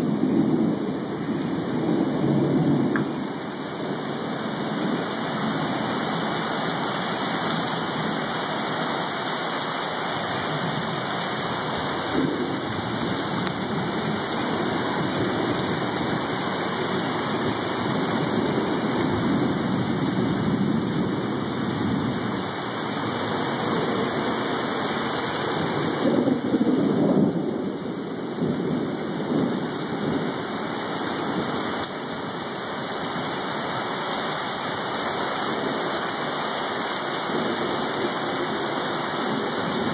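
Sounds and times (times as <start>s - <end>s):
thunder rumbling: 0.0s - 33.9s, 34.7s - 39.9s
heavy rain pouring: 0.0s - 39.9s.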